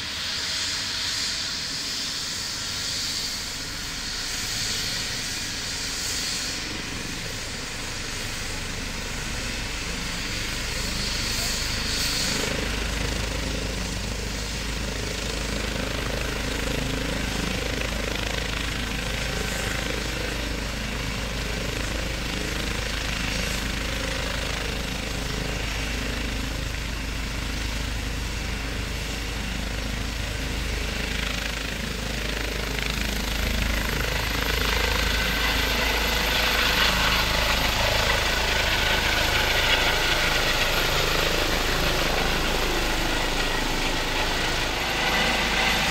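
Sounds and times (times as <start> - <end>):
helicopter rotor beat: 0.0 - 45.9
turbine whine: 0.0 - 45.9.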